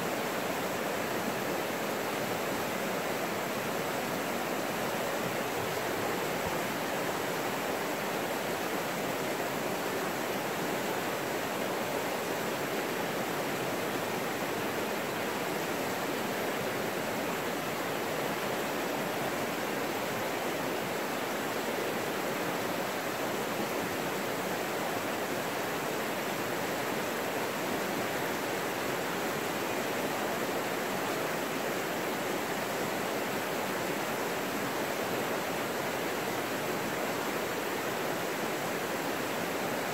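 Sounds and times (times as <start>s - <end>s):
river rapids rushing over rocks: 0.0s - 39.9s.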